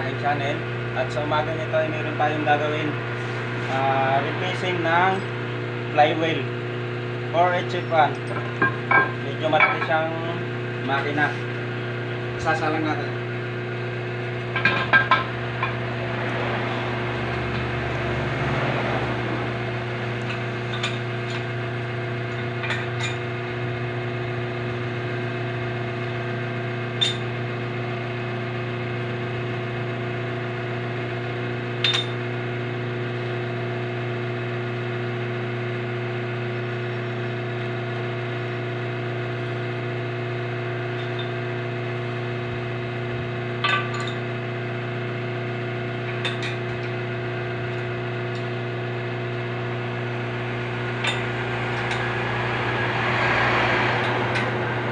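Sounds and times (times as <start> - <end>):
steady machine hum: 0.0 - 54.9.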